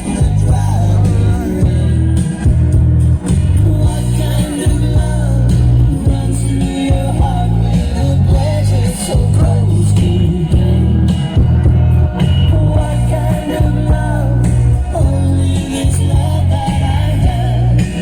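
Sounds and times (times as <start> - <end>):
music with heavy bass line: 0.0 - 18.0
person singing: 0.0 - 18.0.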